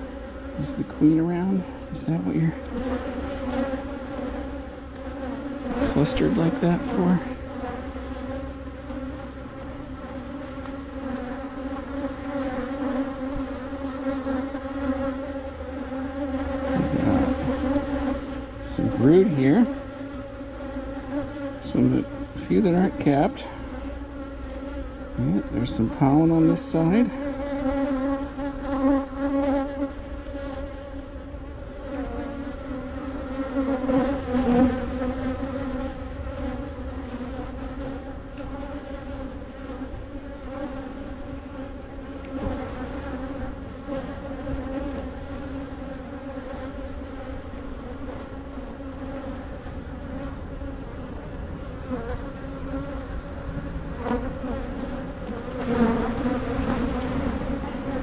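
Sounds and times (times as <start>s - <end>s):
honey bees buzzing: 0.0s - 58.0s.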